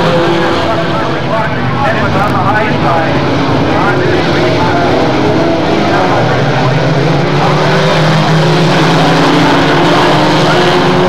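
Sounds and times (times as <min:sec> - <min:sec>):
racing truck engines: 0:00.0 - 0:11.0.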